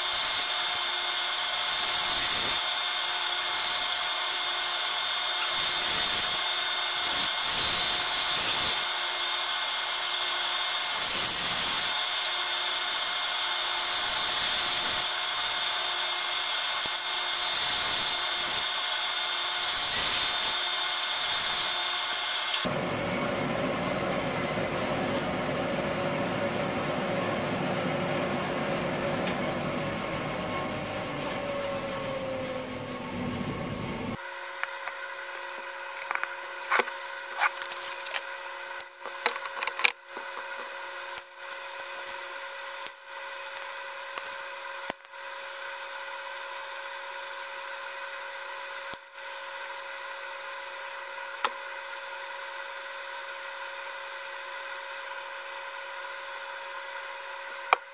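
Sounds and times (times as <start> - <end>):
band saw cutting wood: 0.0 - 57.9.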